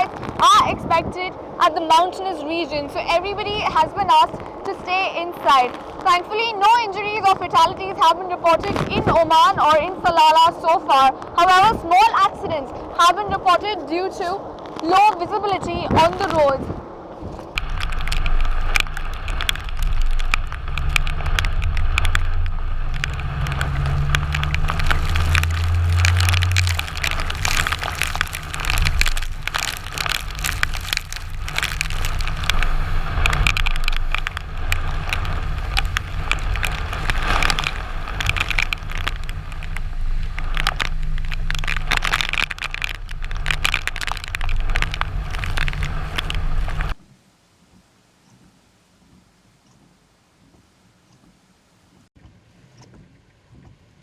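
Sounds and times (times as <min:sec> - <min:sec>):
strong wind buffeting microphone: 0:00.0 - 0:47.0.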